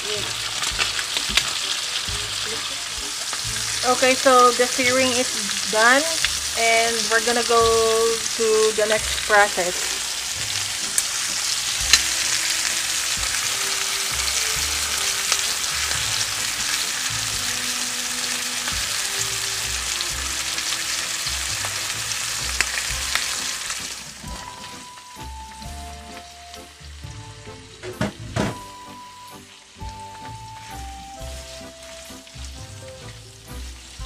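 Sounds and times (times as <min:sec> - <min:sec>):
meat sizzling in a skillet: 0:00.0 - 0:34.0.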